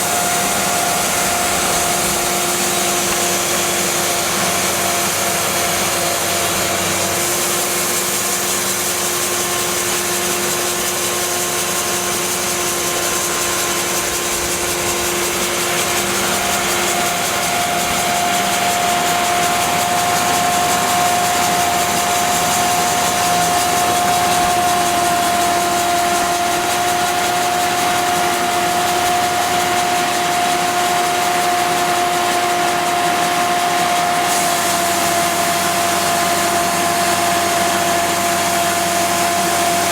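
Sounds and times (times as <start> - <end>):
bandsaw blade sawing log: 0.0 - 39.9
diesel engine running: 0.0 - 39.9.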